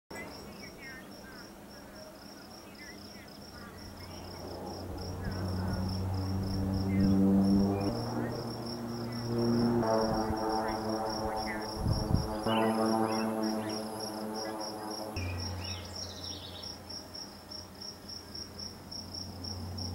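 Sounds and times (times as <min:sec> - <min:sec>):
crickets chirping: 0:00.1 - 0:19.9
propeller plane droning: 0:02.9 - 0:19.9.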